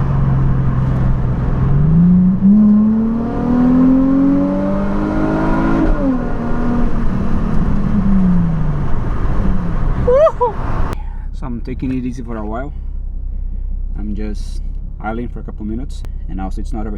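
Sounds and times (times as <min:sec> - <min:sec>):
car engine accelerating: 0:00.0 - 0:16.9.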